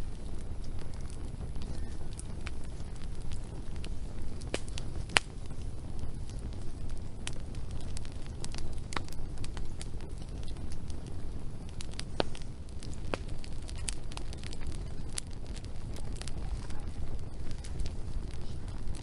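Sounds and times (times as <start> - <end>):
logs crackling and popping: 0.0 - 19.0
wood fire rumbling: 0.0 - 19.0.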